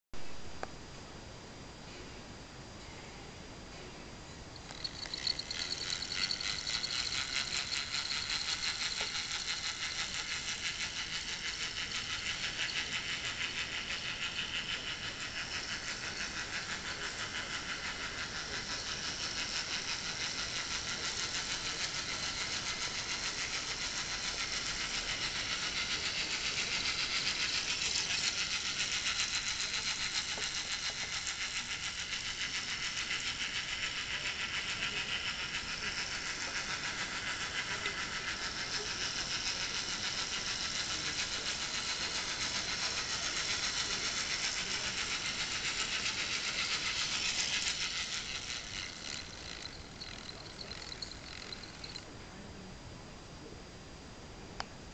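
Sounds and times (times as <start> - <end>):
model locomotive gearbox rattling: 4.5 - 52.1.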